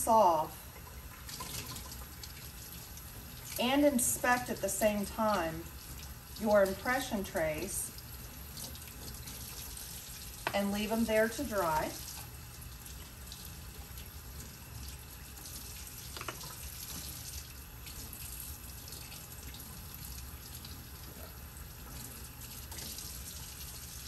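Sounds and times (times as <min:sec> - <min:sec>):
tap water running into sink: 0:00.6 - 0:24.0.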